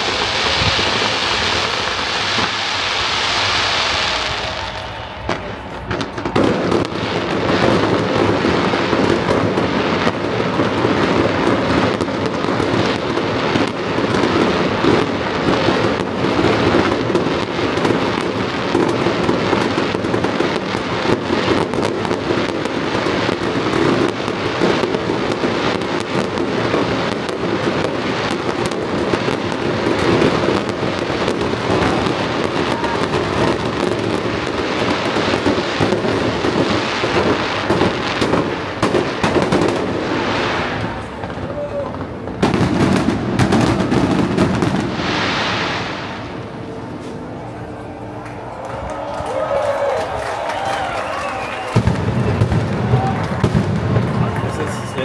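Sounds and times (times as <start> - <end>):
fireworks bangs and crackles: 0.0 - 48.5, 49.3 - 55.0.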